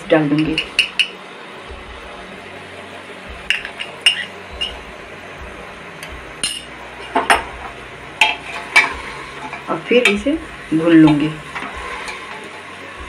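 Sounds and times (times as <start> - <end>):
meat sizzling in hot fat: 0.5 - 13.0.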